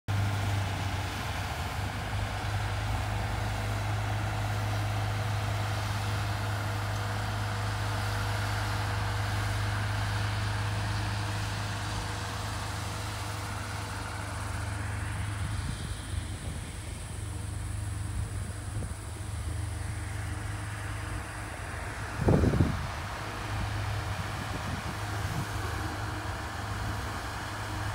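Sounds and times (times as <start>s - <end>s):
diesel machinery engine hum: 0.1s - 27.9s.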